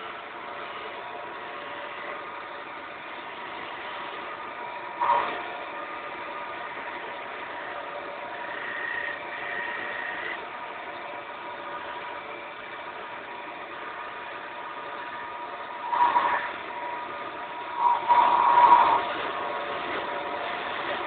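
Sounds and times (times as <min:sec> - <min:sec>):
wood lathe humming: 0:00.0 - 0:21.0.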